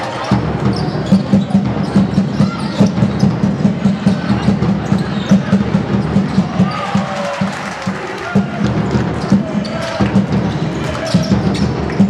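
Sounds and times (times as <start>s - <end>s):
shoe squeaks and knocks: 0.0s - 7.2s, 9.2s - 12.0s
rapid low drumbeat: 0.3s - 12.0s.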